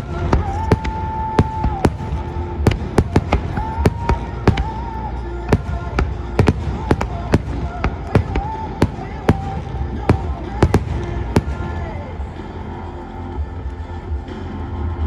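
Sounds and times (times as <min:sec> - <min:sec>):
fireworks bursting: 0:00.0 - 0:14.5
low rumble: 0:00.0 - 0:15.0
music playing: 0:00.0 - 0:15.0.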